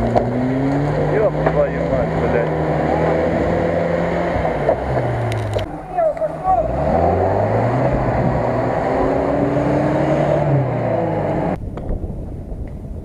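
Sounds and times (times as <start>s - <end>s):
engine revving through mud: 0.0s - 11.6s.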